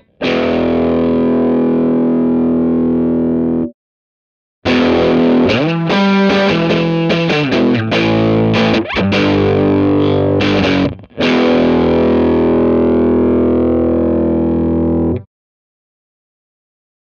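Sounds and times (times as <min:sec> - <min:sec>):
distorted electric guitar chords: 0:00.0 - 0:03.7, 0:04.7 - 0:15.3.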